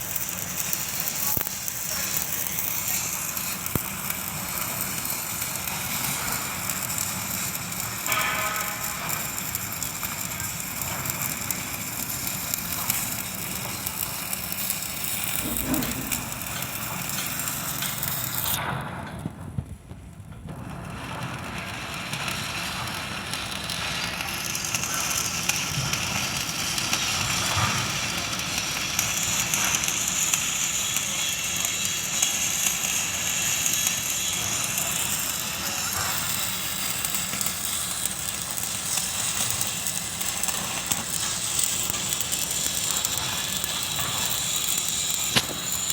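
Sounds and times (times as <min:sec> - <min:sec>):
arc welding crackling hiss: 0:00.0 - 0:18.7, 0:20.6 - 0:45.9.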